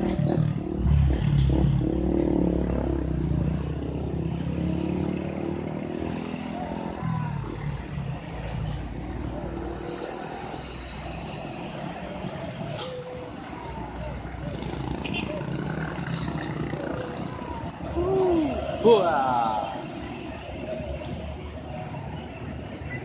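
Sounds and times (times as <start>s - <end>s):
truck engine drone: 0.0s - 22.7s
traffic noise: 0.0s - 23.0s.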